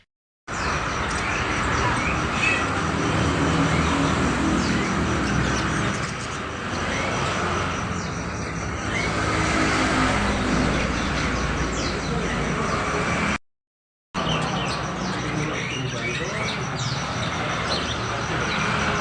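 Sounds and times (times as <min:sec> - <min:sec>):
caged birds chirping: 0:00.0 - 0:13.4, 0:14.2 - 0:19.0
road traffic: 0:00.0 - 0:13.4, 0:14.2 - 0:19.0.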